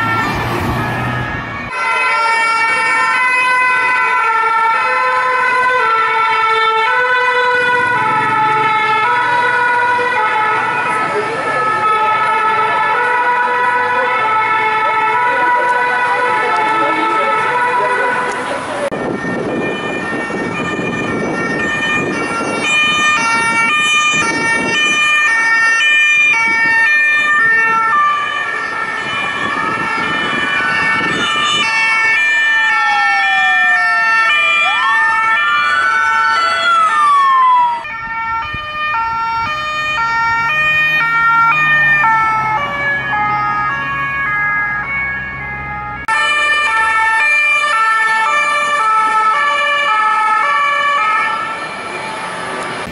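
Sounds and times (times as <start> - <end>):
road traffic: 0.0 - 52.9
two-tone sirens: 0.0 - 52.9.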